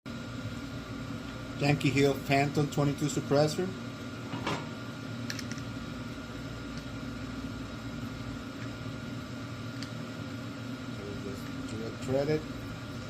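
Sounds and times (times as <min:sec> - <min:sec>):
low mechanical hum: 0:00.1 - 0:13.0.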